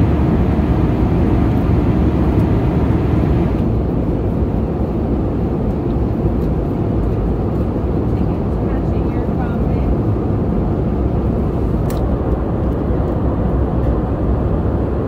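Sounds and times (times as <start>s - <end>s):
airplane cabin engine rush: 0.0s - 15.0s.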